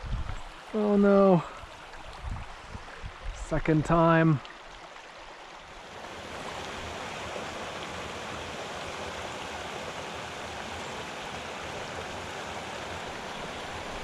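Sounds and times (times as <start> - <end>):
stream babbling over rocks: 0.0 - 14.0.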